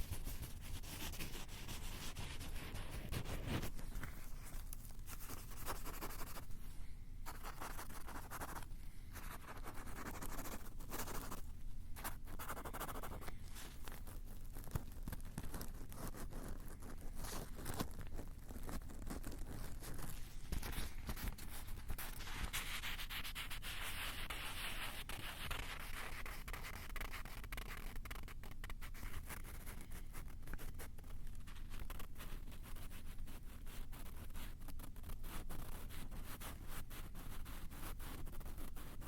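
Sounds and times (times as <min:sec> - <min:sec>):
scratching on microphone: 0:00.0 - 0:06.6, 0:07.2 - 0:39.0.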